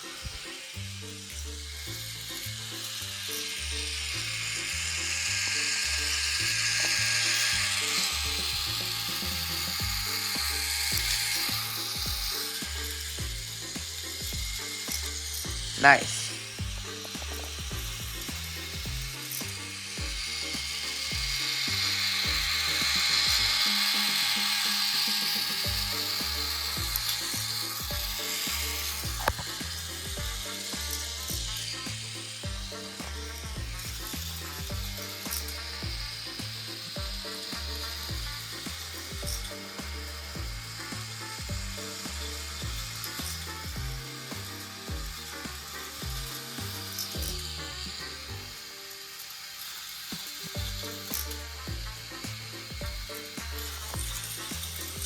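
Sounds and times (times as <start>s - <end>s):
low background music: 0.0s - 55.0s
toy trains rattling on plastic track: 0.0s - 55.0s.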